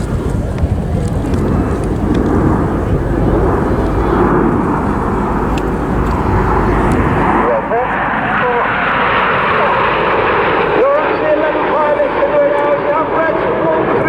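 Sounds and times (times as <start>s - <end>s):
jet aircraft roar: 0.0s - 14.0s.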